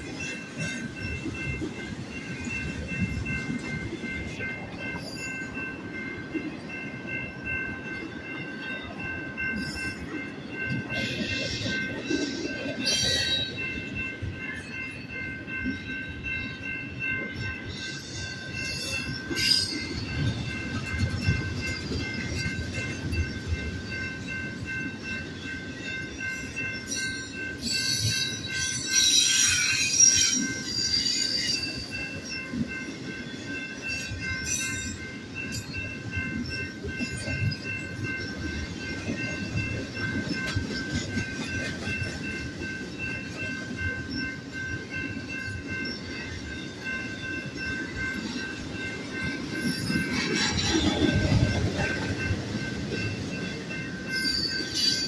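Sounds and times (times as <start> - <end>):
train wheels squealing: 0.0 - 6.1, 8.2 - 14.9, 15.5 - 55.0
crossing warning bell ringing: 0.0 - 55.0
freight train wheels rumbling: 0.0 - 55.0.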